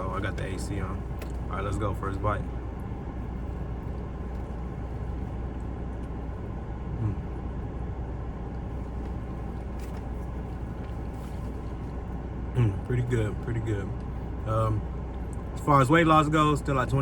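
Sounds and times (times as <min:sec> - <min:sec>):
air conditioner running: 0:00.0 - 0:17.0.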